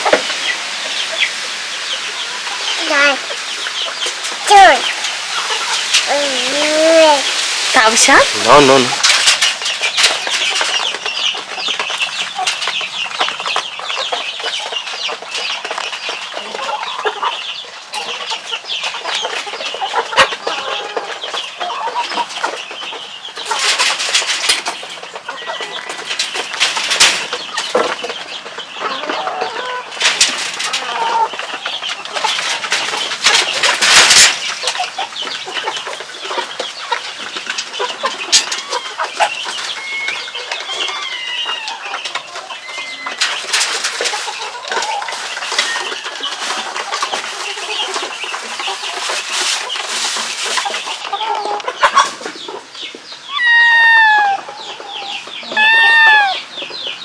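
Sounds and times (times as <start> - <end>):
scratching and rustling: 0.0 - 17.4, 18.0 - 56.5
chickens clucking: 0.0 - 57.0.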